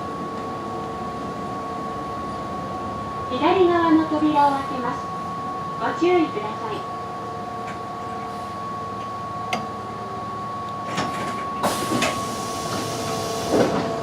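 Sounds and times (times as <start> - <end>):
electric train arriving: 0.0 - 14.0.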